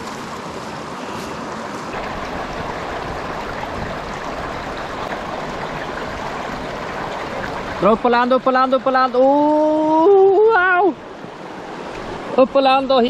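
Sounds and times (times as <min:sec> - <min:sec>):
mountain stream running: 0:00.0 - 0:13.0.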